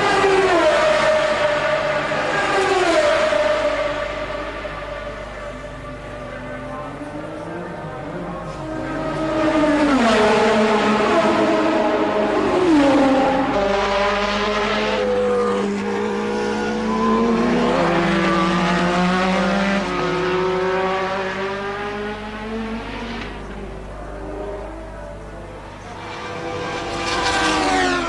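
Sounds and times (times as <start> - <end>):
race cars passing at high revs: 0.0 - 28.0.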